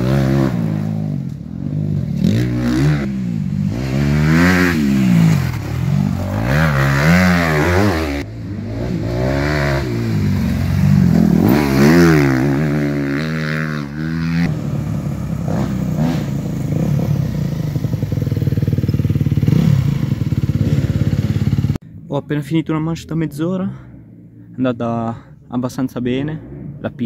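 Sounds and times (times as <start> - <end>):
motocross bike engine revving: 0.0 - 21.8.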